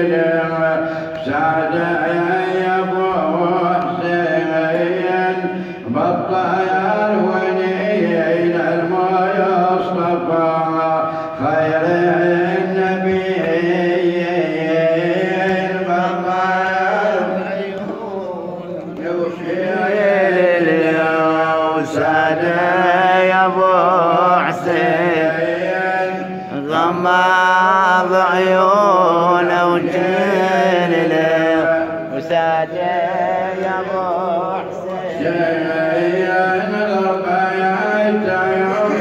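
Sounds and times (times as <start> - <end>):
man chanting a lament: 0.0 - 39.0.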